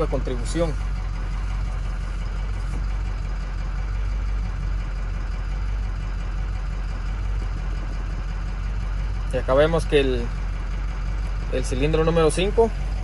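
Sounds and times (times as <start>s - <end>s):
diesel engine idling with misfire: 0.0s - 13.0s.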